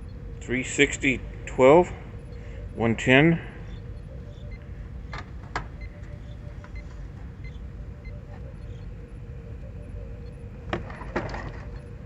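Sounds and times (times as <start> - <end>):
faint steady hum: 0.0 - 12.0
low background rumble: 0.0 - 12.0.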